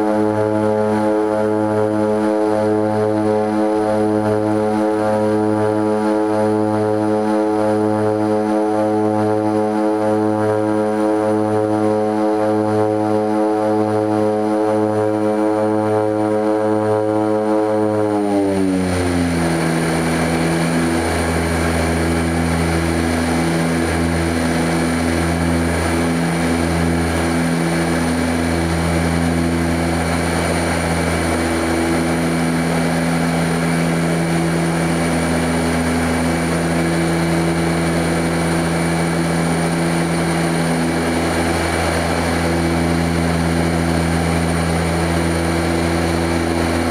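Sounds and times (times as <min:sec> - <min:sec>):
turboprop engines droning: 0:00.0 - 0:46.9.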